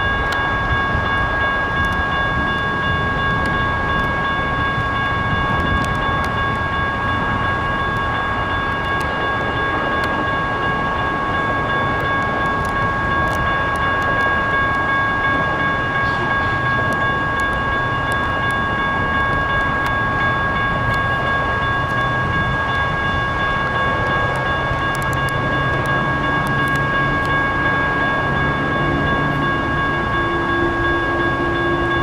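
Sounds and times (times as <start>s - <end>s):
constant rushing noise: 0.0s - 32.0s
electronic crossing bell ringing: 0.0s - 32.0s.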